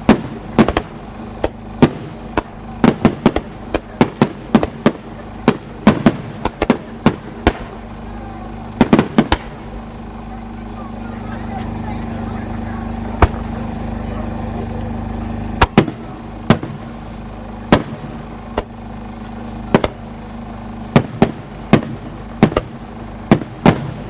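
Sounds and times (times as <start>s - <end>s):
fireworks shells bursting: 0.0s - 24.0s
steady low hum: 0.0s - 24.0s.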